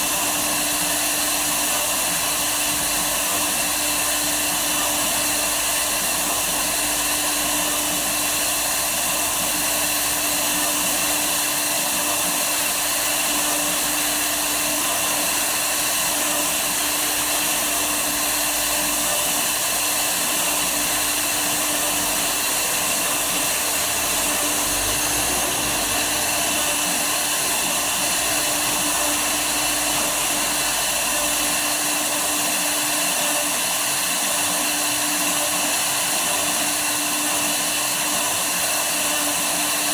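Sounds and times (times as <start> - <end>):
router spindle whirring: 0.0 - 39.9.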